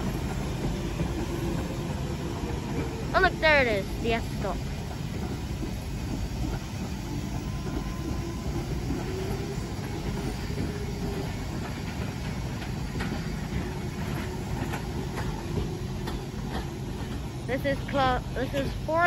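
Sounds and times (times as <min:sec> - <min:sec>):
underground train rumbling: 0:00.0 - 0:19.0.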